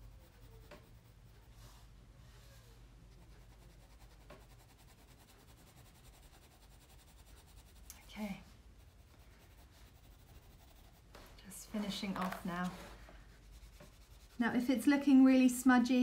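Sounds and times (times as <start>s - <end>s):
pencil scratching on paper: 0.0s - 1.9s, 2.6s - 15.1s
low room hum: 0.0s - 16.0s.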